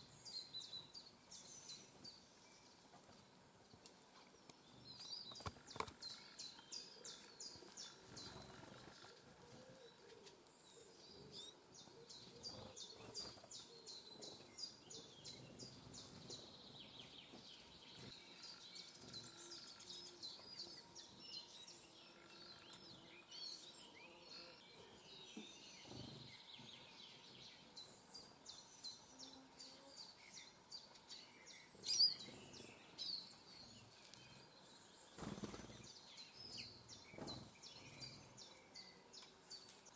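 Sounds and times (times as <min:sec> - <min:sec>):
songbird trill: 0:00.0 - 0:39.9
bird chirps: 0:04.7 - 0:39.9.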